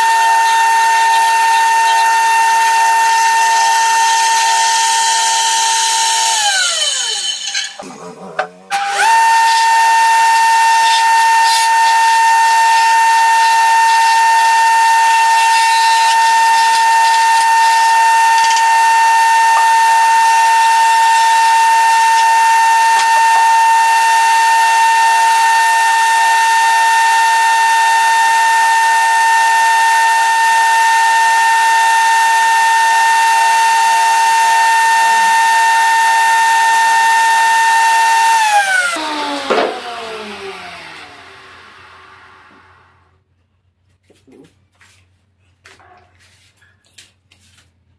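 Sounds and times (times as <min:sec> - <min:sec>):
wood lathe motor whining: 0:00.0 - 0:43.1.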